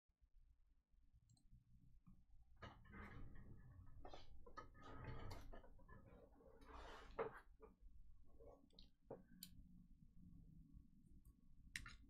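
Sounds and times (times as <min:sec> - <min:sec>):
low room hum: 0:00.2 - 0:12.0.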